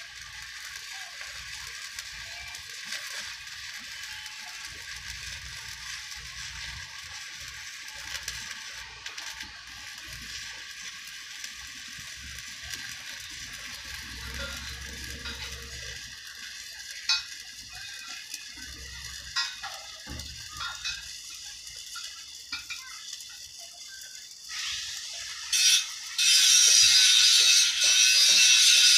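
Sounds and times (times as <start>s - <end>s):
welding arc crackling: 0.0s - 28.9s.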